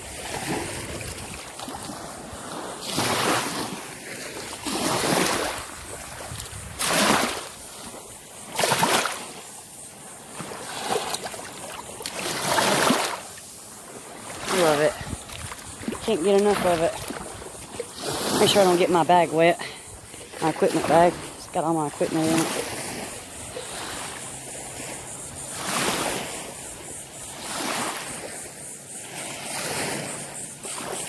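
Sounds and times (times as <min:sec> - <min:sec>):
small waves splashing at shore: 0:00.0 - 0:31.0.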